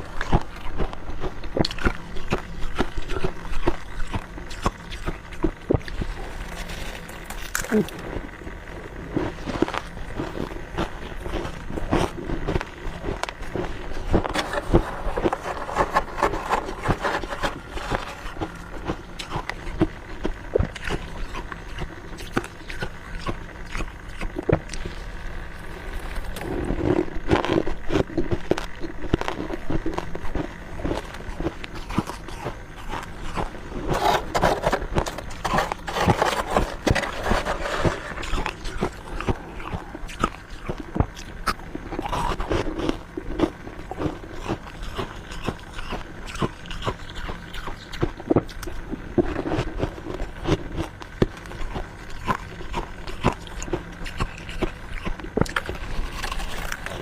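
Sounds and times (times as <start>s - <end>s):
person chewing crunchy frost: 0.0s - 57.0s.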